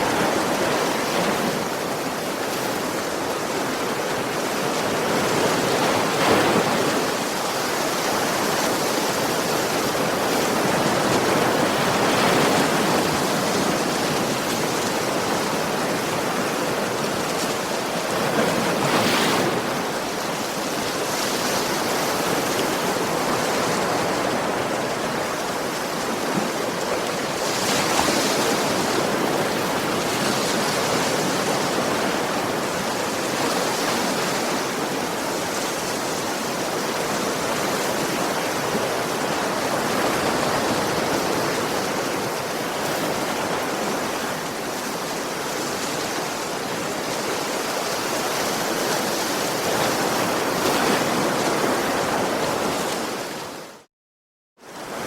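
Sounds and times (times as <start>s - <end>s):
sea waves breaking on beach: 0.0s - 53.9s.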